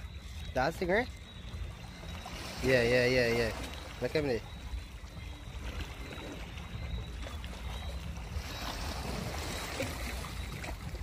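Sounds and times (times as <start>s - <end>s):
sea water sloshing and splashing: 0.0s - 11.0s.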